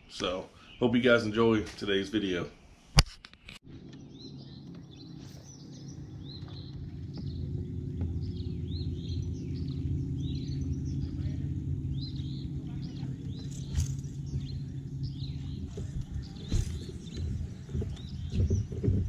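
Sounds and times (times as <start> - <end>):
small birds chirping: 0.0 - 2.4, 3.7 - 19.0
steady low hum: 3.6 - 19.0.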